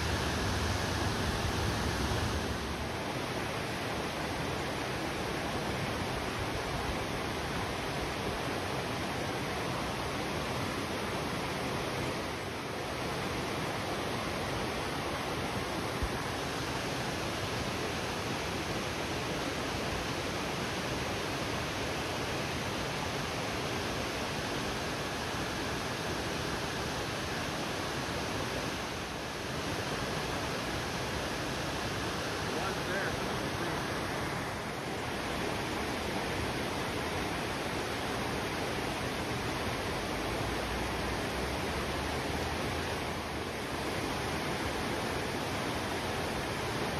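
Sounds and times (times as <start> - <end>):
stream rushing over boulders: 0.0 - 46.9.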